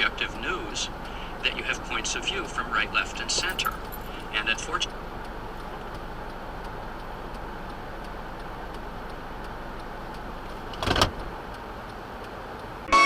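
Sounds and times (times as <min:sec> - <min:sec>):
car cabin road and engine noise: 0:00.0 - 0:12.9
faint regular ticking: 0:00.1 - 0:12.9.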